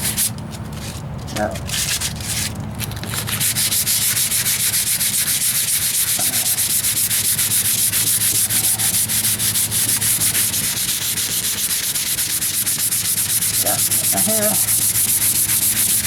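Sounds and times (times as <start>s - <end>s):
sandpaper rubbing on metal: 0.0s - 16.0s.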